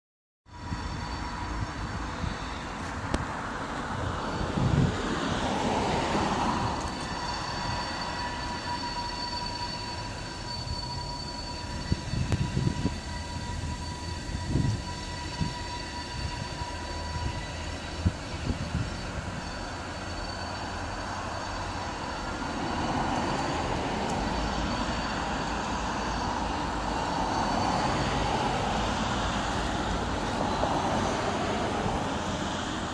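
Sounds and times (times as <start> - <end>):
diesel locomotives rumbling: 0.5 - 32.9
steady high tone: 0.5 - 32.9.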